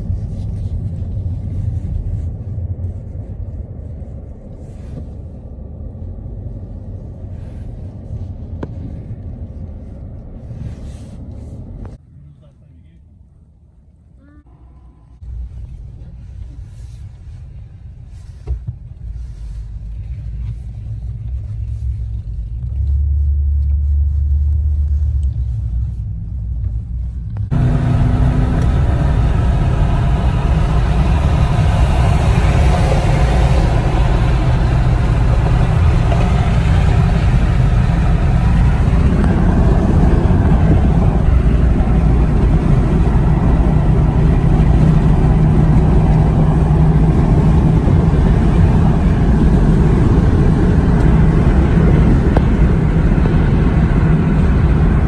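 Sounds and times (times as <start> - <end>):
car engine and tyre rumble: 0.0 - 55.0
road and wind noise: 0.0 - 55.0.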